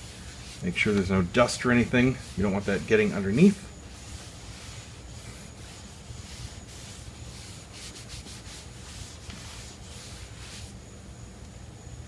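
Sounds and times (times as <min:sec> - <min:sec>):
towel scrubbing plastic: 0:00.0 - 0:10.8.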